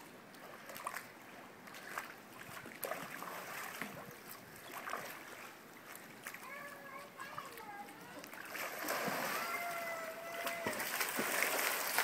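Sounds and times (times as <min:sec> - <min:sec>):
light splashes of wading: 0:00.0 - 0:12.0
pool water lapping and sloshing: 0:00.0 - 0:12.0.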